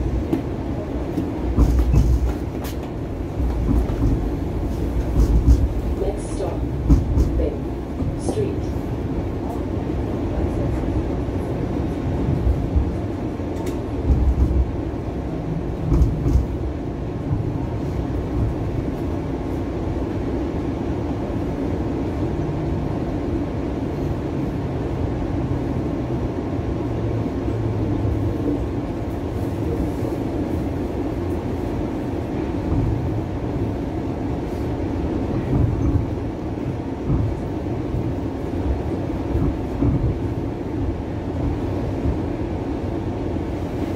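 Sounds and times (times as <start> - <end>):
streetcar cabin rumble: 0.0 - 43.9.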